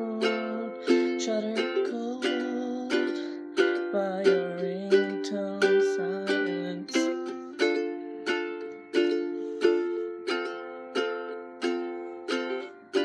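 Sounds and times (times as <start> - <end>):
acoustic strings strummed chords: 0.0 - 13.0.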